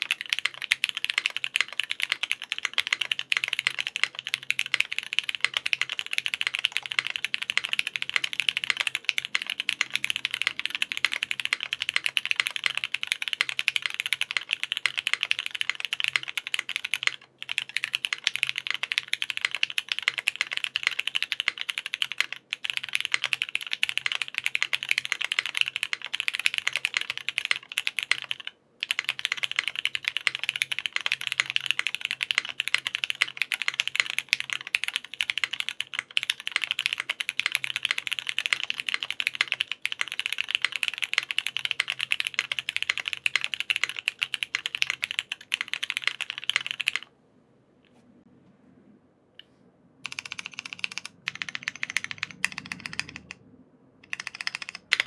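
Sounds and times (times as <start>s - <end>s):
mechanical keyboard typing: 0.0s - 47.1s, 50.0s - 53.4s, 54.0s - 55.0s.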